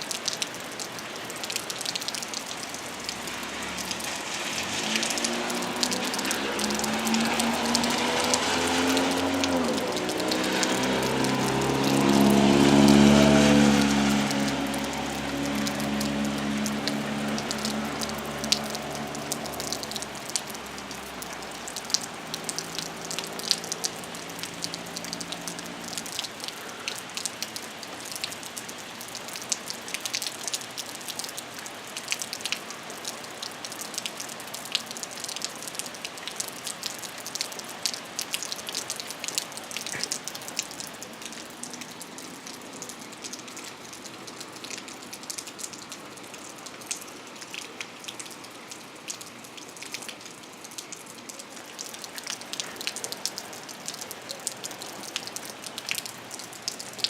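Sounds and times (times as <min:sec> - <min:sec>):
rain falling: 0:00.0 - 0:57.0
raindrops hitting surfaces: 0:00.0 - 0:57.0.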